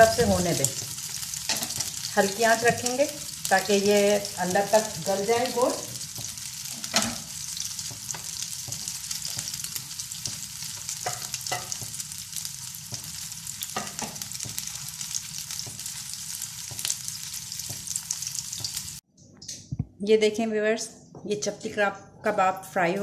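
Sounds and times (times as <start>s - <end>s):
meat sizzling in oil: 0.0s - 19.0s
oil crackling and popping: 0.0s - 19.0s.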